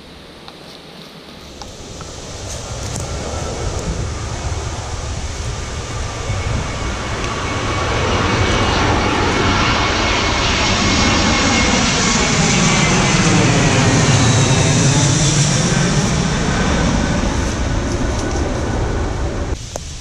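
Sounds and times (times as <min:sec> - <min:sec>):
airplane engine drone overhead: 0:00.0 - 0:20.0.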